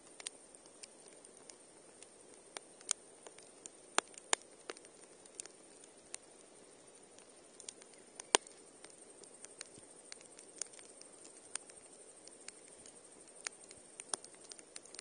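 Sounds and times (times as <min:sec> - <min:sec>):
campfire crackling and popping: 0:00.0 - 0:15.0
faint steady hiss: 0:00.0 - 0:15.0.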